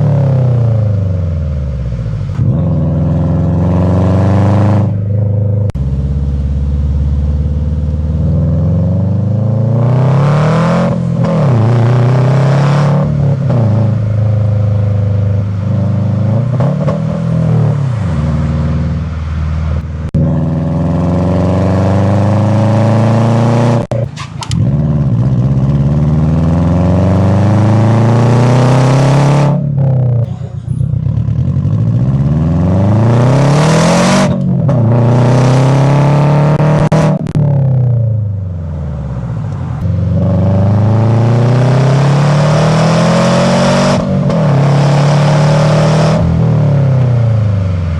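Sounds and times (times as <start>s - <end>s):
car engine revving and accelerating: 0.0s - 30.4s, 31.0s - 47.9s.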